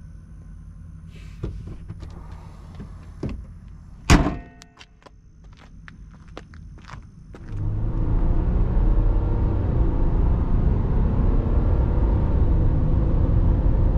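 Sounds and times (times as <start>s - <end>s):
low vehicle engine: 0.0s - 13.9s.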